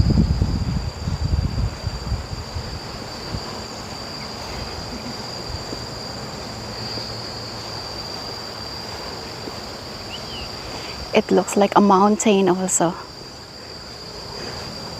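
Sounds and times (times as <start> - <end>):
insects buzzing: 0.0 - 14.9.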